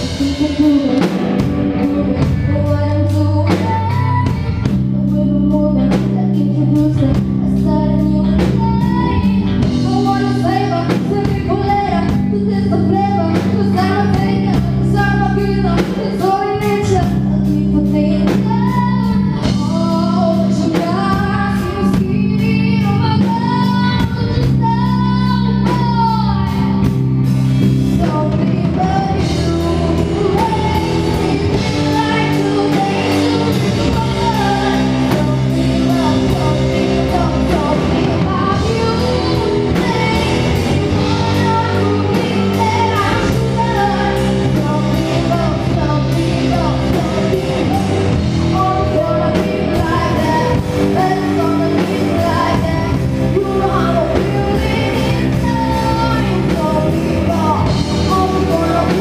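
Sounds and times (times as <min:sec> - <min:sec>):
lead vocal singing: 0:00.0 - 0:59.0
live rock band playing: 0:00.0 - 0:59.0.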